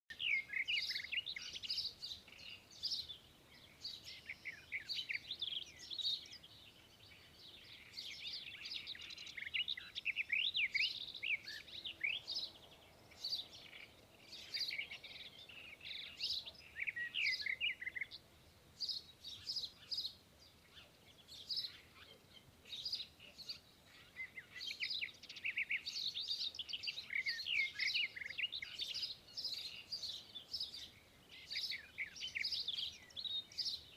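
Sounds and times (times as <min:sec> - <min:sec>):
birds chirping and singing: 0:00.1 - 0:33.9.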